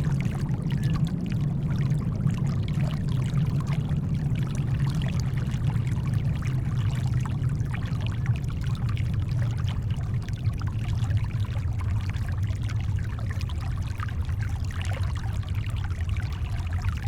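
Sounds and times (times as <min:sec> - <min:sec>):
deep rumble of brown noise: 0:00.0 - 0:17.0.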